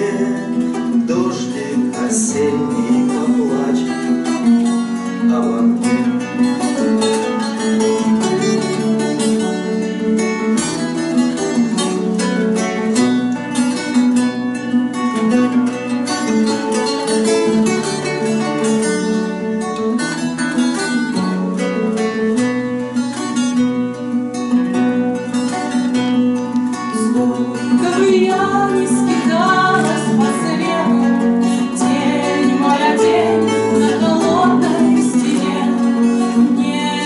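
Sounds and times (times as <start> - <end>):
acoustic guitars strumming: 0.0 - 37.0.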